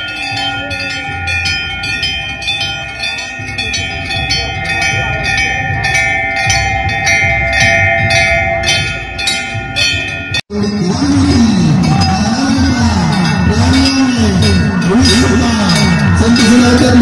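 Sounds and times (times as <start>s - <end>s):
temple bells ringing: 0.0s - 17.0s.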